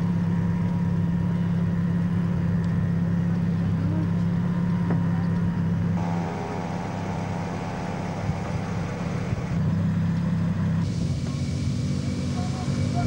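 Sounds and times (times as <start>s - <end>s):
vehicle engine hum and road noise: 0.0s - 13.0s.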